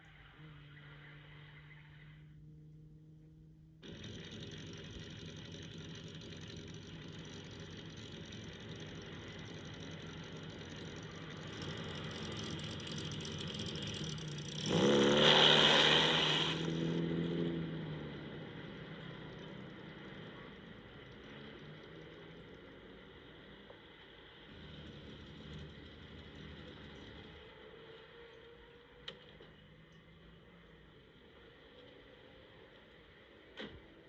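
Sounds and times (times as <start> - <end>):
sports car engine revving: 0.2 - 33.0.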